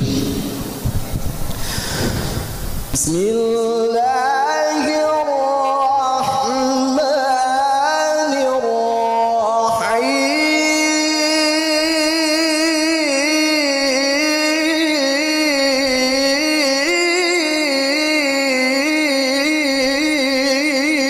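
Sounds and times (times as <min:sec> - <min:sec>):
man chanting through a microphone: 0:02.9 - 0:21.0.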